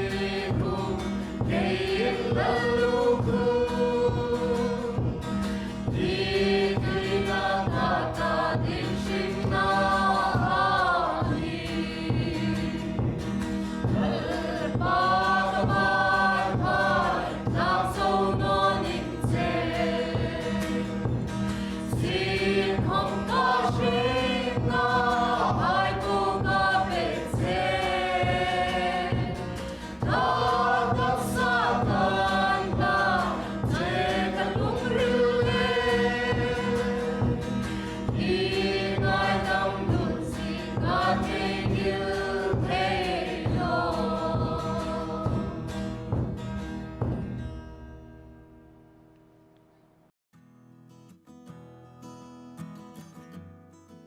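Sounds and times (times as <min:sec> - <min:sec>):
choir singing gospel song: 0:00.0 - 0:47.0
instrumental accompaniment: 0:00.0 - 0:48.6.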